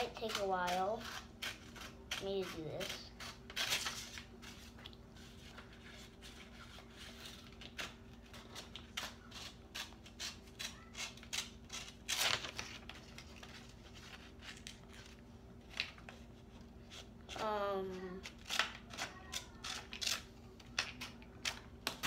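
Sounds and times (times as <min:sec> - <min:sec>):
scissors snipping paper: 0:00.0 - 0:04.9, 0:05.5 - 0:16.1, 0:16.9 - 0:22.0.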